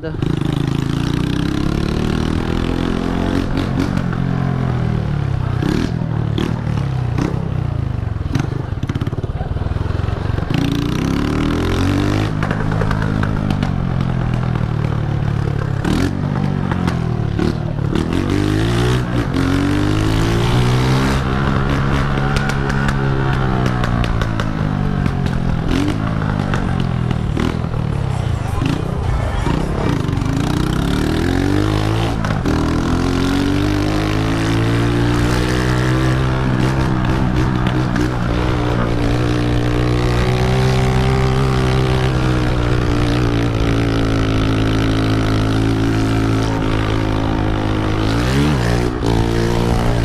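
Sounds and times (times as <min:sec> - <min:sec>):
loud motorcycle engine revving: 0:00.0 - 0:50.0.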